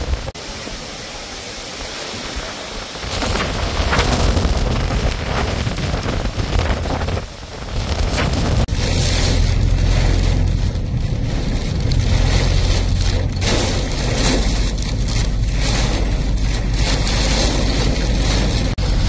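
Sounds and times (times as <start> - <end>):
hiss of driving rain: 0.0 - 19.0
strong wind buffeting microphone: 0.0 - 19.0.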